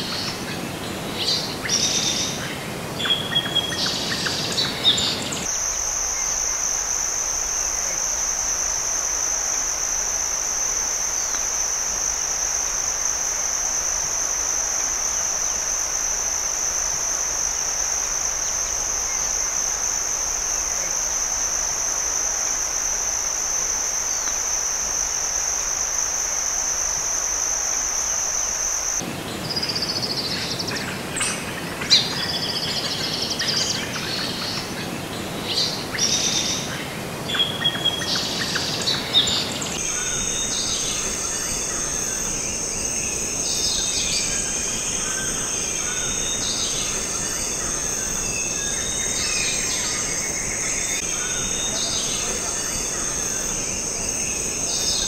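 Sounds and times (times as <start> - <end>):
high-pitched insect drone: 1.1 - 34.8, 35.4 - 55.0.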